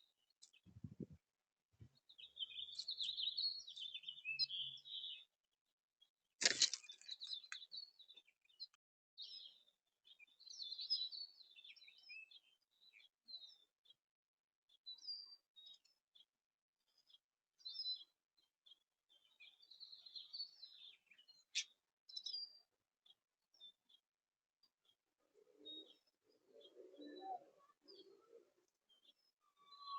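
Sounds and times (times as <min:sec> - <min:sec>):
songbirds chirping and twittering: 0:00.0 - 0:29.9.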